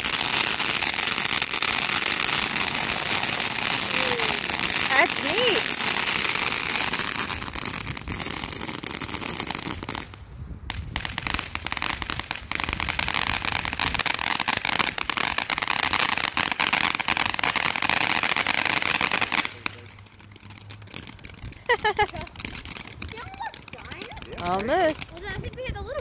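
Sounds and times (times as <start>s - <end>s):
firework sparks crackling: 0.0s - 26.0s.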